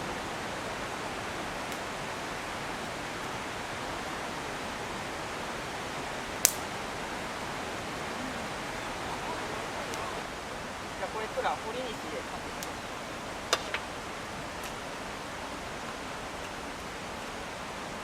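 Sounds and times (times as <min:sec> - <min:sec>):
stream flowing over stones: 0:00.0 - 0:18.0.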